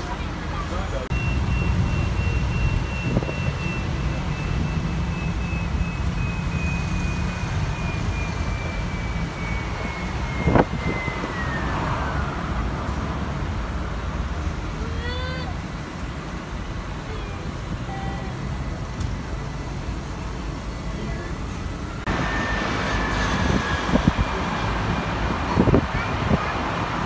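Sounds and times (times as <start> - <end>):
bus engine rumble: 0.0 - 27.0
high whine falling in pitch: 1.1 - 14.0, 14.6 - 26.8.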